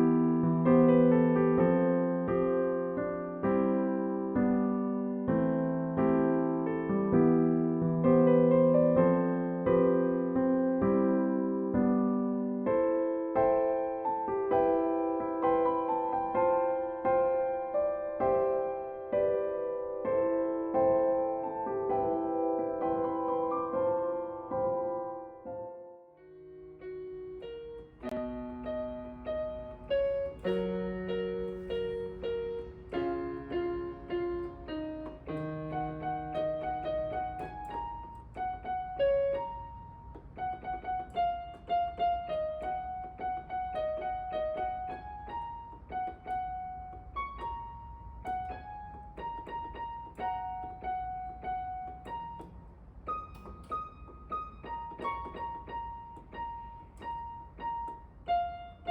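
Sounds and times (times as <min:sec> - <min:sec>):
gentle piano music: 0:00.0 - 0:58.9.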